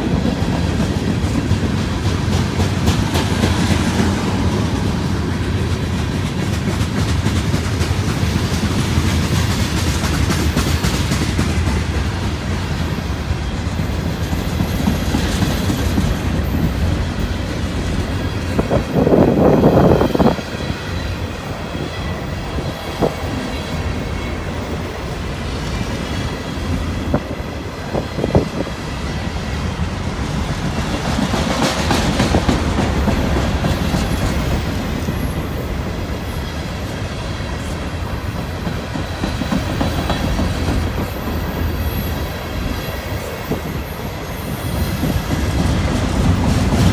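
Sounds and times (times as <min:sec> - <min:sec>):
freight train rumble: 0:00.0 - 0:46.9
train wheels clicking over rail joints: 0:00.0 - 0:46.9.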